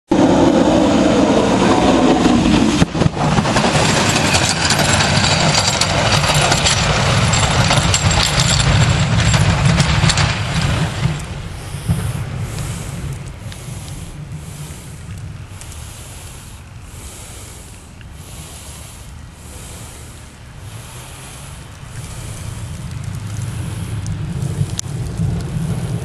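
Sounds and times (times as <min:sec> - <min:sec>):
plow scraping and rattling: 0:00.1 - 0:26.0
truck engine drone: 0:00.1 - 0:26.0.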